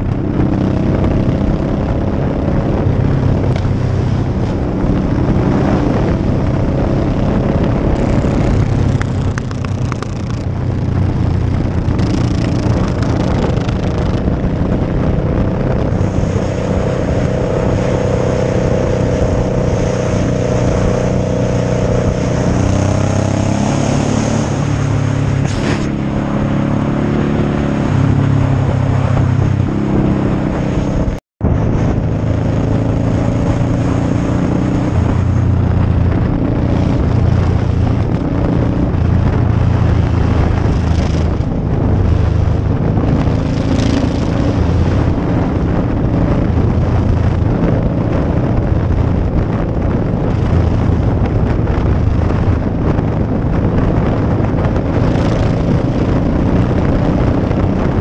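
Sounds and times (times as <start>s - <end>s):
motorcycle engine cruising: 0.0s - 58.0s
wind rushing: 0.0s - 58.0s.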